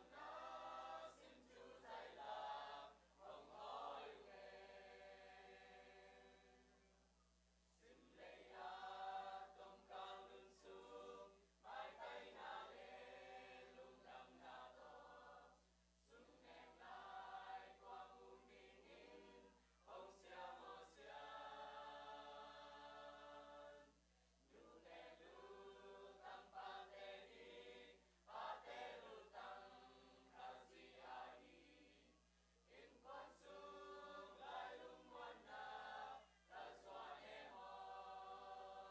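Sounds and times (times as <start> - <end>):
choir singing a hymn: 0.0 - 7.0, 7.8 - 38.9.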